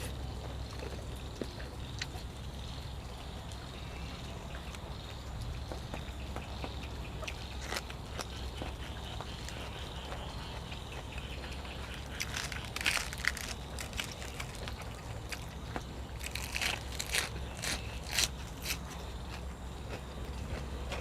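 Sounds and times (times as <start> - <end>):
person chewing crunchy food: 0.0 - 21.0
steady low hum: 0.0 - 21.0.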